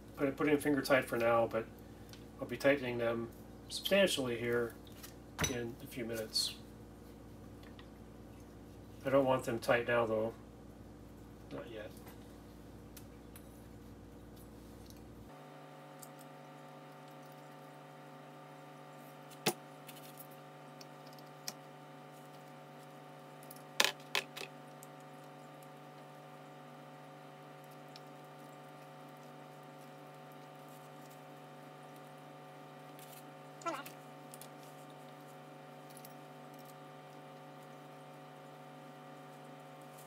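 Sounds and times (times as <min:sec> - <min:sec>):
steady background hum: 0:00.0 - 0:40.0.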